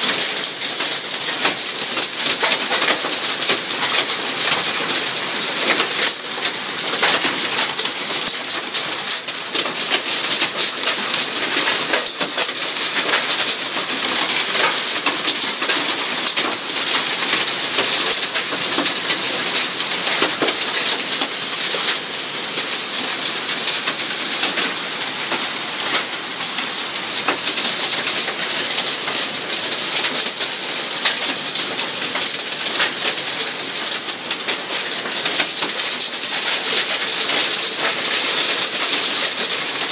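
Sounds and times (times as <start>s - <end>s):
hail and rain pelting: 0.0s - 39.9s.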